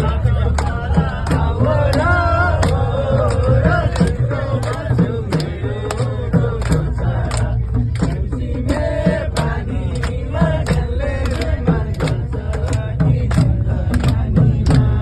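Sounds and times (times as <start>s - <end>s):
music with beat and vocals: 0.0s - 15.0s.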